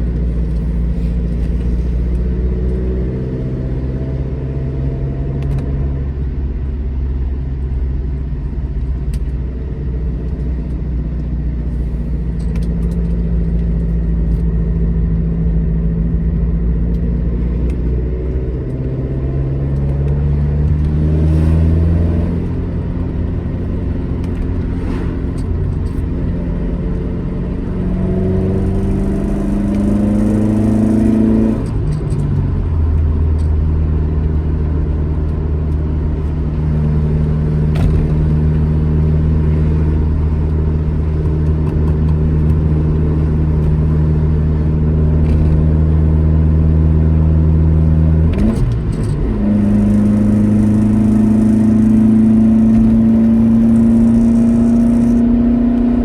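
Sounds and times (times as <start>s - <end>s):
car engine accelerating: 8.4s - 56.0s.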